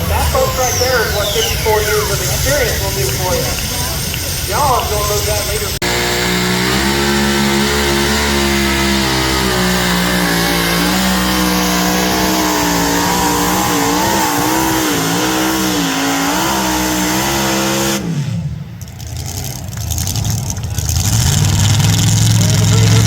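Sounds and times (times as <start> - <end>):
engine winding down: 0.0 - 23.0
tractor engine running hard: 0.0 - 23.0.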